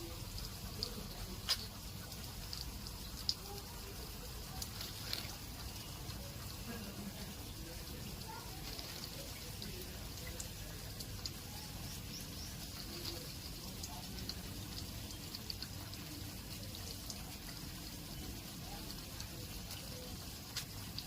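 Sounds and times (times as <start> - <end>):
water pouring and trickling: 0.0 - 21.0.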